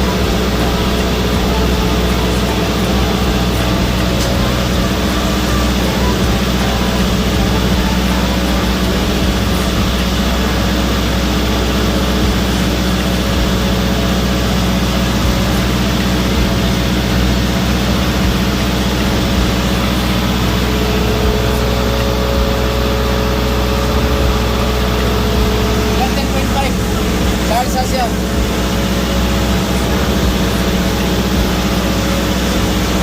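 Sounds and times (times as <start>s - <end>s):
generator engine running steadily: 0.0s - 33.0s.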